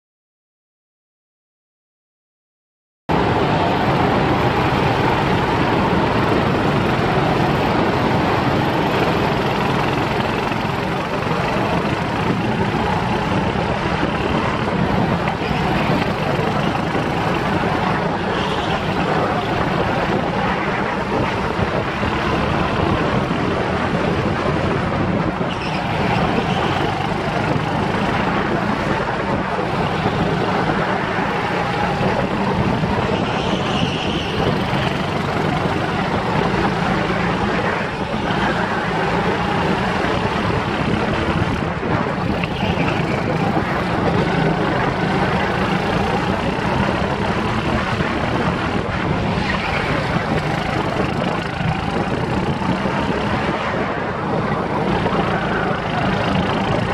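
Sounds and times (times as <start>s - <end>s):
go-kart engine running: 3.1s - 56.9s.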